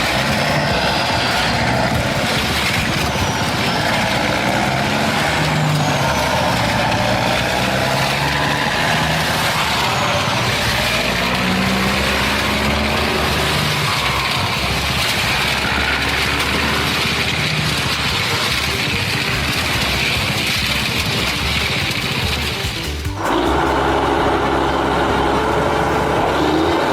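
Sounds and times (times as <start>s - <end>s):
heavy machinery engine running: 0.0s - 26.9s.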